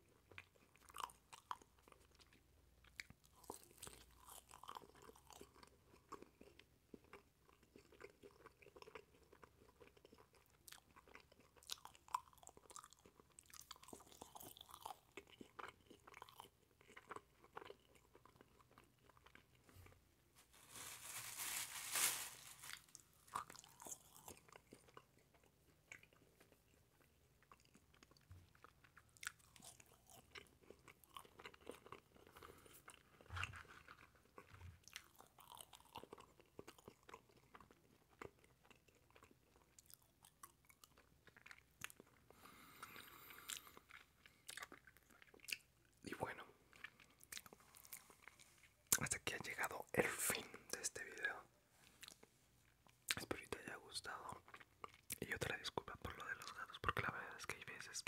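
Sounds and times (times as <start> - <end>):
chewing with wet mouth clicks: 0.1 - 19.8, 23.3 - 46.0, 46.6 - 49.1, 52.0 - 53.4, 54.3 - 57.1.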